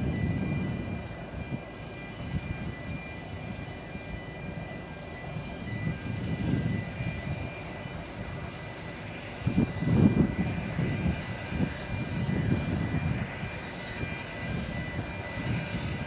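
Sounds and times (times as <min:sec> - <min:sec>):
steam locomotive rumble: 0:00.0 - 0:16.0.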